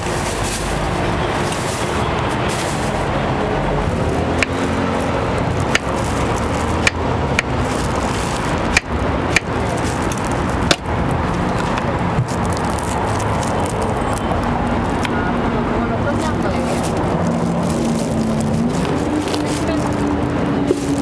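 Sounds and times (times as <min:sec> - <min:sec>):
street stall background noise: 0:00.0 - 0:21.0.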